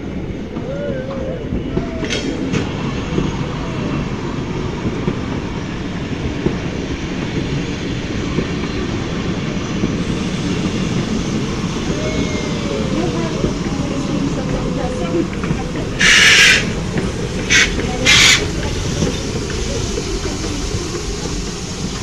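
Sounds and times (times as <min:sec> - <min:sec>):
train rumble and wheel clatter: 0:00.0 - 0:22.0.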